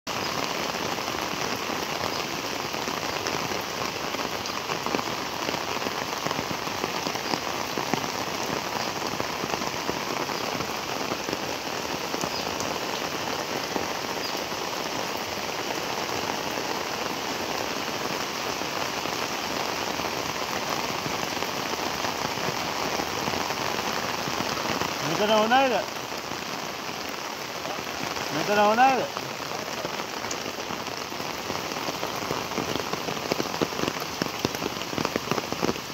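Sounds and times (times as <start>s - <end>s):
heavy rain on standing water: 0.0s - 35.9s.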